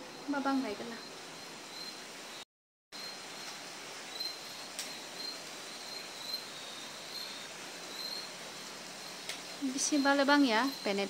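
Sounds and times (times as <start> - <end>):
background hiss: 0.0 - 2.4, 3.0 - 11.0
cricket chirping: 0.0 - 2.4, 3.0 - 11.0.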